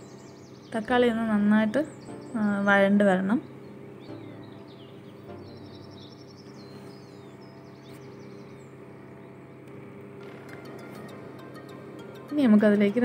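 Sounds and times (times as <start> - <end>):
birds chirping and trilling: 0.0 - 13.0
steady low hum: 0.0 - 13.0.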